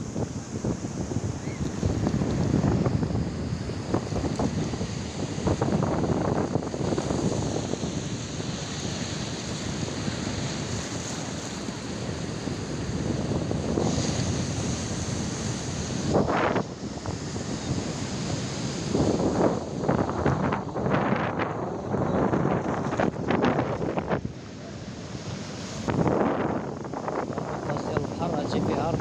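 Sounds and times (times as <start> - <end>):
ocean surf on shore: 0.0 - 29.0
wind buffeting microphone: 0.0 - 29.0.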